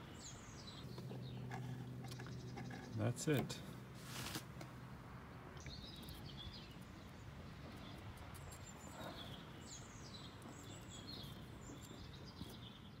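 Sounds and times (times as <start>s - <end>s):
birds chirping: 0.0s - 4.0s, 4.6s - 13.0s.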